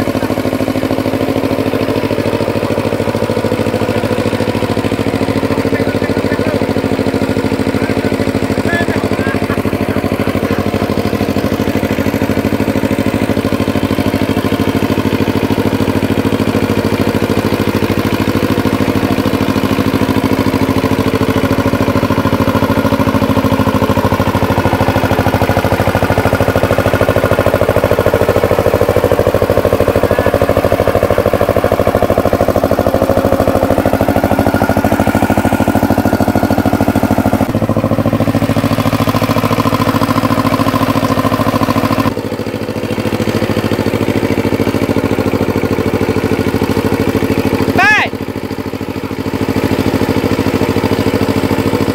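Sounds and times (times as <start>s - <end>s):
diesel tiller engine running: 0.0s - 51.9s.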